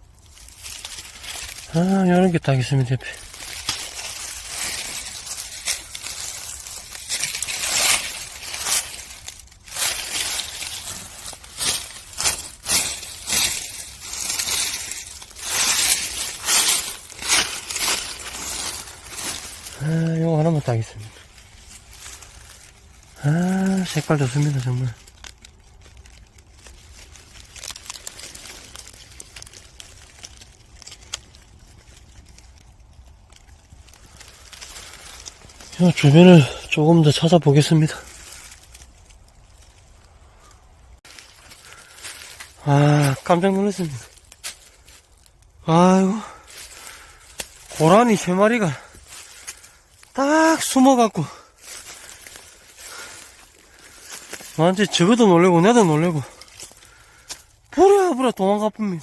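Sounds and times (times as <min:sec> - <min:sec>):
dry leaves rustling and crunching: 0:00.0 - 0:59.0
twig snapping: 0:00.1 - 0:01.8, 0:03.1 - 0:20.5, 0:21.2 - 0:35.9, 0:38.0 - 0:45.6, 0:46.4 - 0:50.2, 0:51.4 - 0:54.6, 0:56.3 - 0:57.7.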